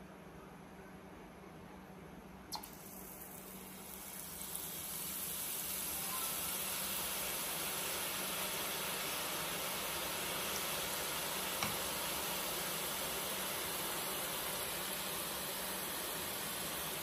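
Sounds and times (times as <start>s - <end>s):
hot oil sizzling: 2.5s - 17.0s.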